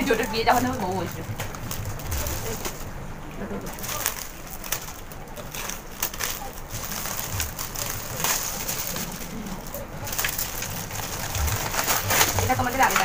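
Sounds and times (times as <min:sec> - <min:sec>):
cellophane crinkling: 0:00.0 - 0:13.0.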